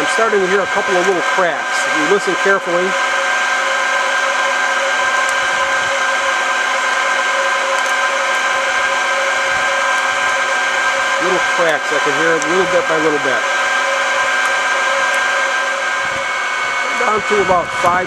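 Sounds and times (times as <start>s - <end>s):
roaster fan whining: 0.0s - 18.0s.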